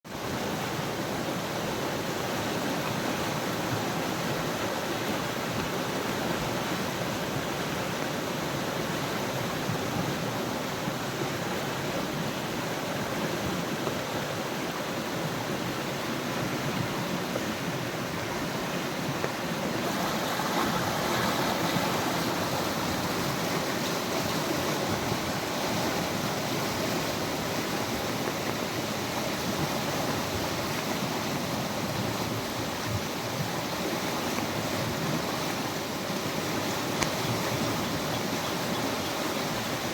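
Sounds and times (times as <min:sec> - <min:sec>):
heavy rain falling: 0:01.5 - 0:39.9.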